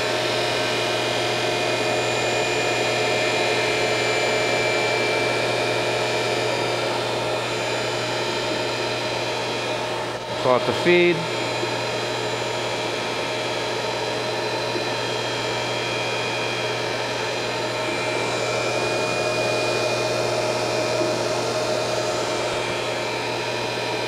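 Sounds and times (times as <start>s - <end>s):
grinder motor hum and whine: 0.0s - 24.0s.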